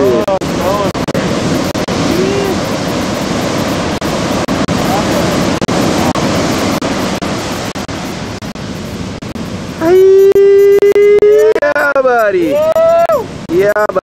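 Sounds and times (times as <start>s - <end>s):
breaking surf rushing: 0.0s - 14.0s.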